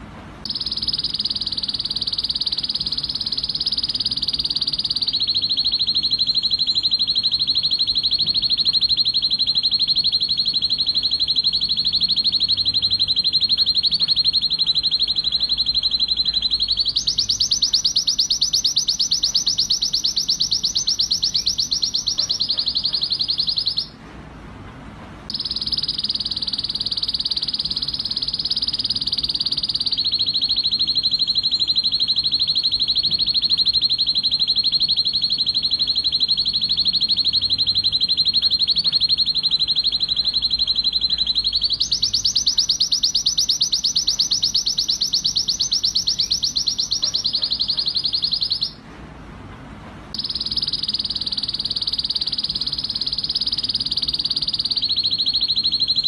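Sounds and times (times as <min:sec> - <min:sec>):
canary singing fast trills: 0:00.4 - 0:24.0, 0:25.3 - 0:48.8, 0:50.2 - 0:56.0.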